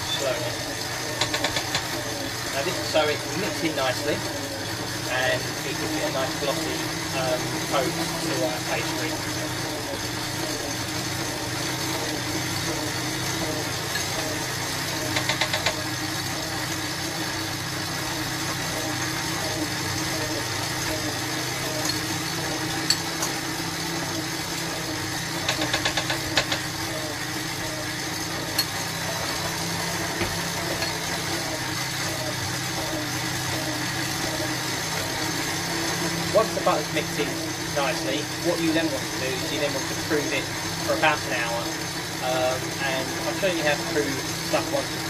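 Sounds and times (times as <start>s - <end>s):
stand mixer running: 0.0s - 45.0s.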